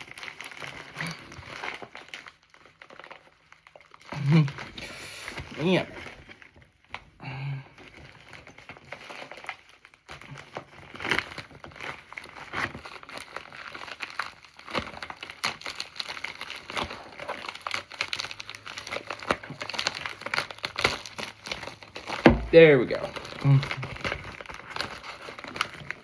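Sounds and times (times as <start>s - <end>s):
parcel packaging crinkling: 0.0s - 26.0s.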